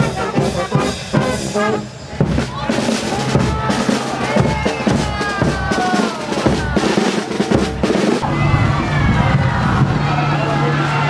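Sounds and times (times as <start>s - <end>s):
snare and bass drums marching: 0.0s - 10.7s.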